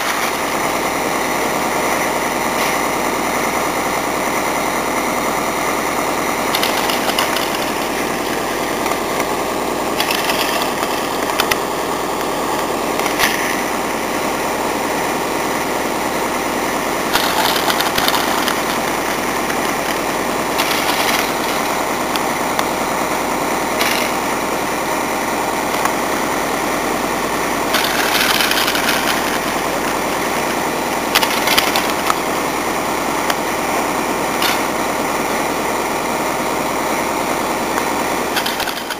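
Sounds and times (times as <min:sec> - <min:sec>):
drag lift mechanical hum: 0:00.0 - 0:38.9.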